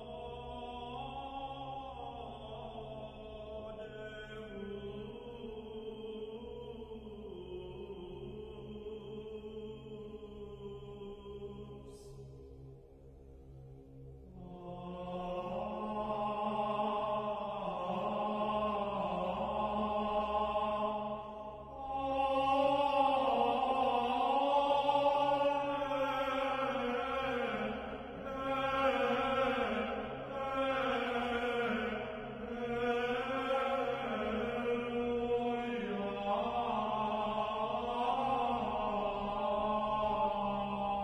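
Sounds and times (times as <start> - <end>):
chant-like singing: 0.0 - 41.0
low drone: 0.0 - 41.0.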